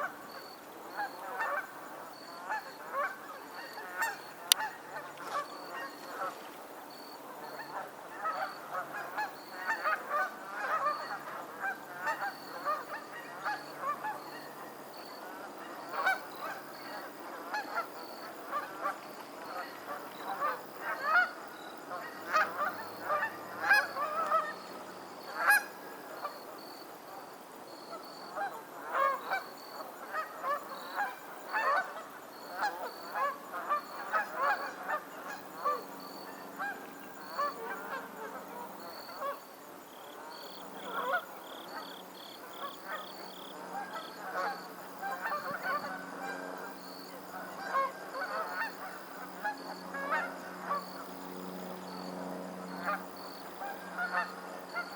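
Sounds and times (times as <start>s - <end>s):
geese honking: 2.4s - 6.4s, 7.5s - 14.6s, 15.6s - 26.4s, 28.0s - 39.4s, 40.2s - 41.9s, 42.5s - 51.0s, 52.6s - 54.9s.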